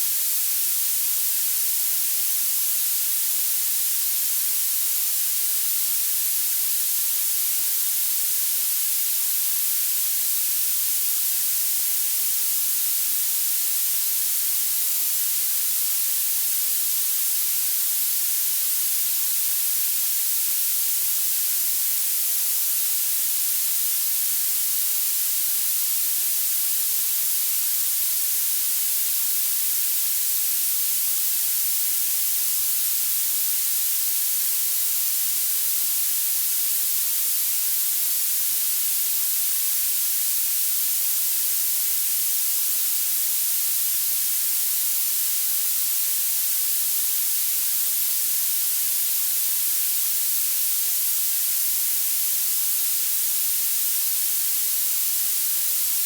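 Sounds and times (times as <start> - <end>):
high-pitched hiss: 10.1 - 56.0.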